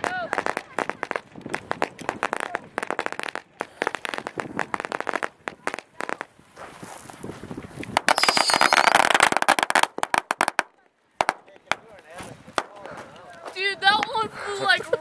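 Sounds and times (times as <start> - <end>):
firecrackers popping: 0.0 - 14.3.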